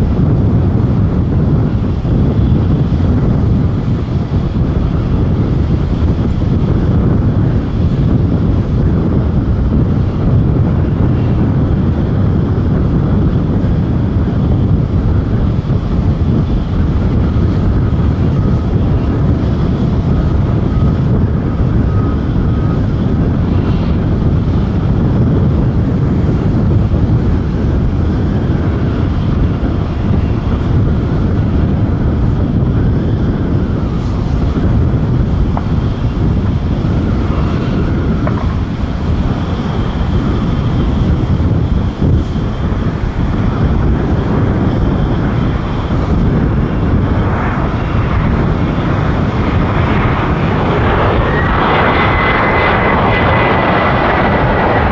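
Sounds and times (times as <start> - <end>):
distant jet engines running: 0.0 - 54.9
faint whine: 0.0 - 54.9
wind on microphone: 0.0 - 54.9.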